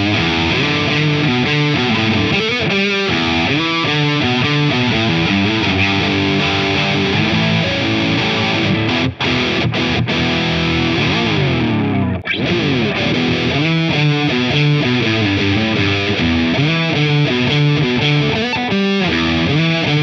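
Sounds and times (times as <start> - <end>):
distorted electric guitar lead: 0.0 - 20.0.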